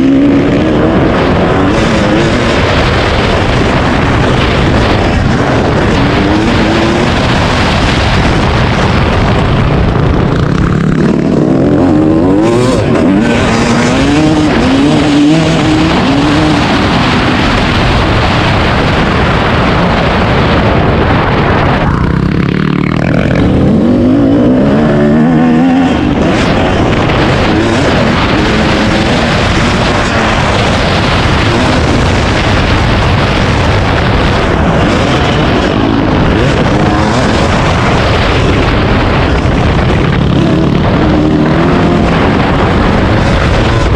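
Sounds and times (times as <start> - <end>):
dirt bike engine revving: 0.0 - 43.9
loud steady rushing noise: 0.0 - 43.9.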